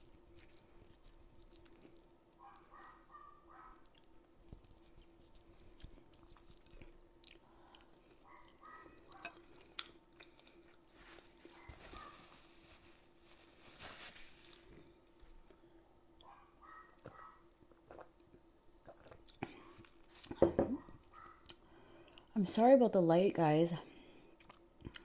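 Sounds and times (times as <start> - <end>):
chewing pasta: 0.0 - 12.3, 14.5 - 22.3, 24.1 - 25.0.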